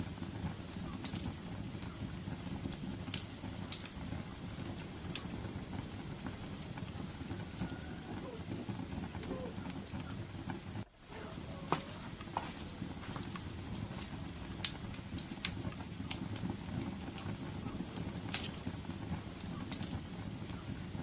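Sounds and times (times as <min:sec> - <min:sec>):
fire popping: 0:00.0 - 0:21.0
wood fire crackling: 0:00.0 - 0:21.0.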